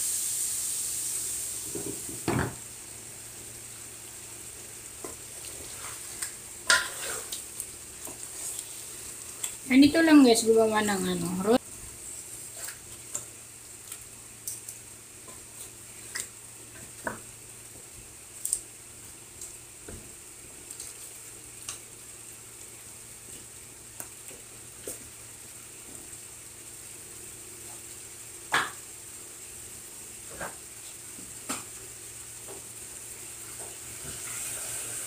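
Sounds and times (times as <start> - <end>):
food sizzling in pot: 0.0 - 35.0.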